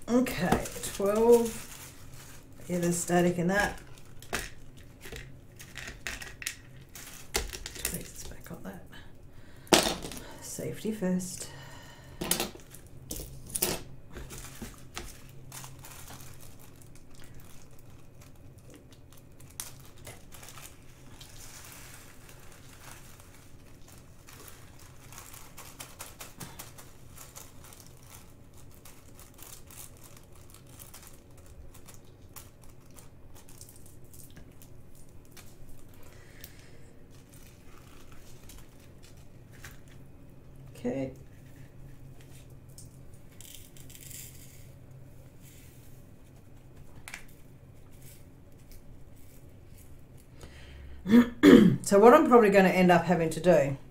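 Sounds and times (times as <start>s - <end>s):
plastic bags crinkling: 0.0s - 8.6s, 11.8s - 50.4s.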